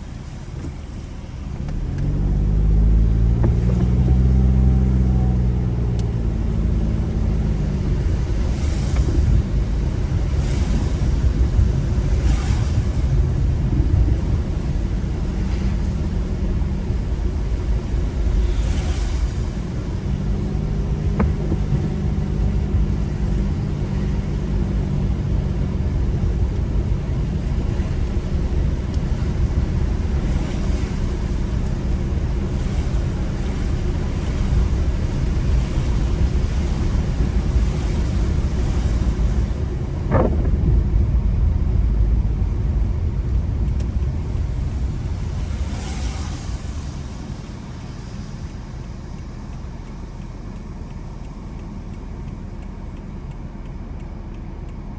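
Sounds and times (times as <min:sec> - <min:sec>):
car driving on wet road: 0:00.0 - 0:54.9.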